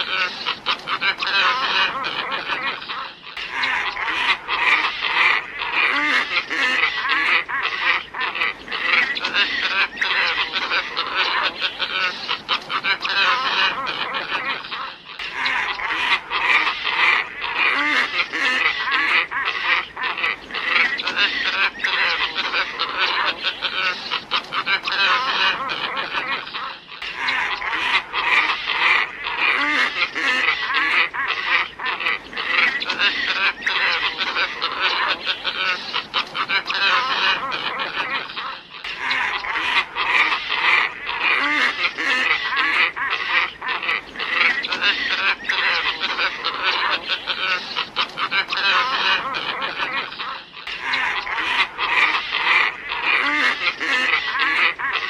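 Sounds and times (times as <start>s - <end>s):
flock of ibises calling: 0.0s - 55.0s.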